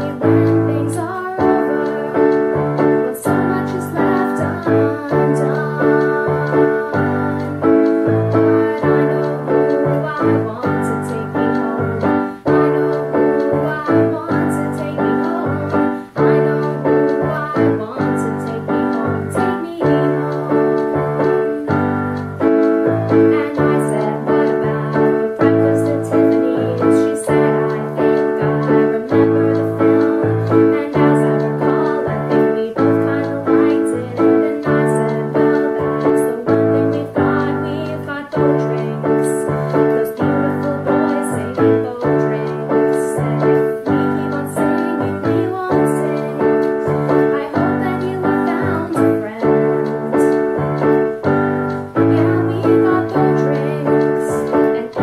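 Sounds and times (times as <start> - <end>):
keyboard piano chords: 0.0 - 55.0
person singing: 0.0 - 55.0.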